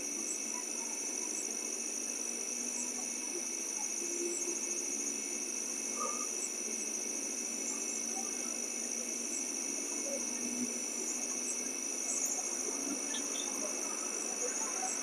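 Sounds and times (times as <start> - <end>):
crickets trilling: 0.0 - 15.0
insect chirps: 0.0 - 15.0.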